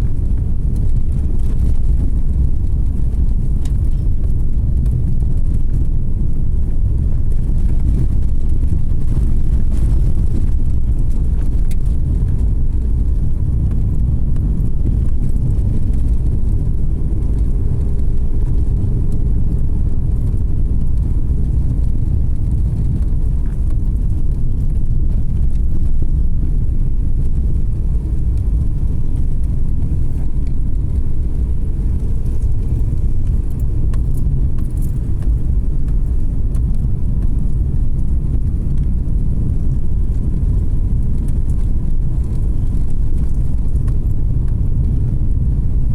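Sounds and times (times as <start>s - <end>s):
tyres and engine rumbling: 0.0s - 45.9s.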